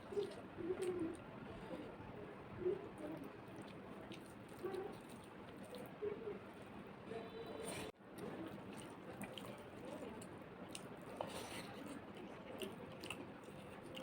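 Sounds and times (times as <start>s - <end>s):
person chewing with wet mouth sounds: 0.0s - 2.0s, 2.8s - 6.7s, 7.6s - 14.0s.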